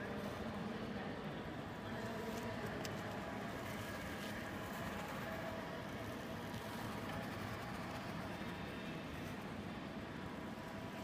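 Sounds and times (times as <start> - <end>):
faint motor whine: 0.0 - 11.0.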